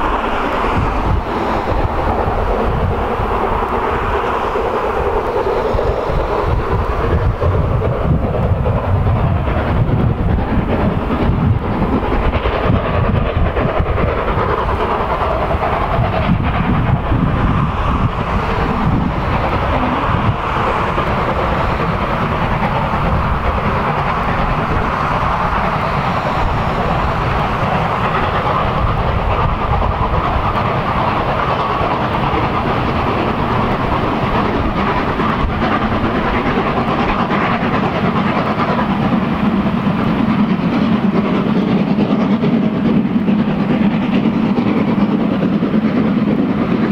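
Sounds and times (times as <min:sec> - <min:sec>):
steam train rumbling: 0:00.0 - 0:46.9.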